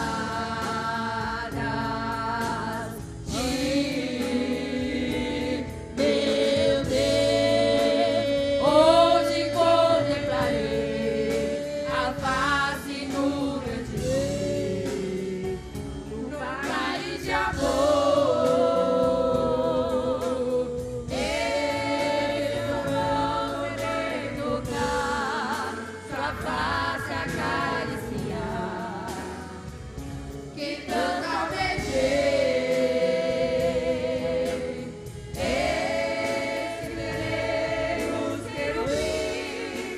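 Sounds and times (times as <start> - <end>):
instrumental backing: 0.0 - 39.9
women's choir singing a hymn: 0.0 - 39.9.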